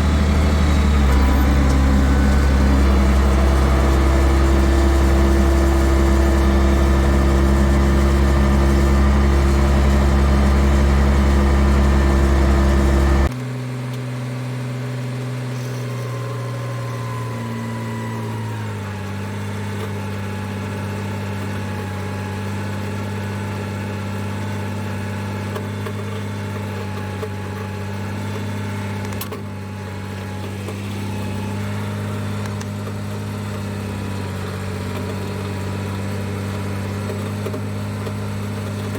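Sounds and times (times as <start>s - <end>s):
large diesel engine running: 0.0s - 38.9s.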